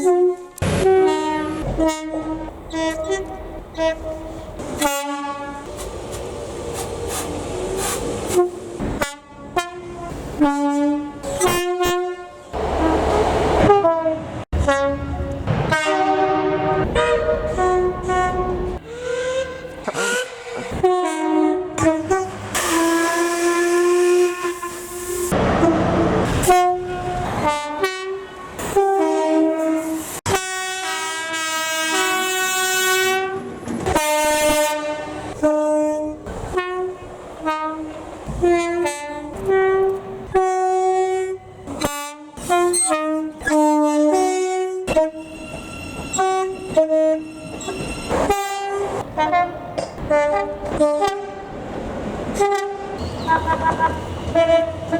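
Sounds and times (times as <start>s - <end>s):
train two-tone horn blasts: 0.0s - 5.8s, 7.8s - 51.5s, 52.4s - 54.9s
train running on rails: 0.0s - 54.9s.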